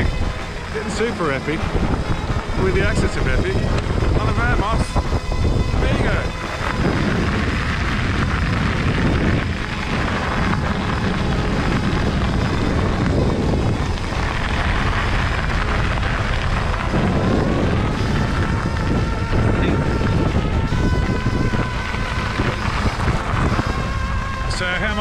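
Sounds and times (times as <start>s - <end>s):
tyres rolling over gravel: 0.0s - 25.0s
wind rushing over microphone: 0.0s - 25.0s.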